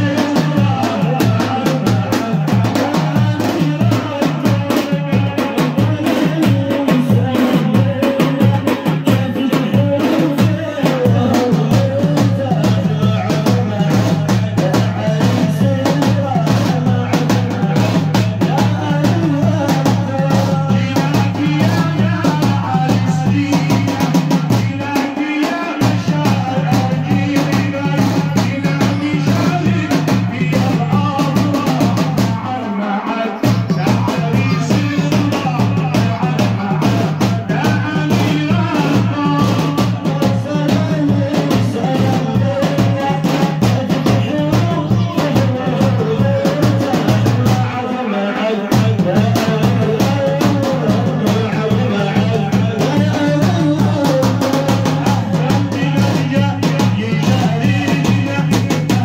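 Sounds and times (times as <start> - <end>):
drum kit steady beat: 0.0 - 59.0.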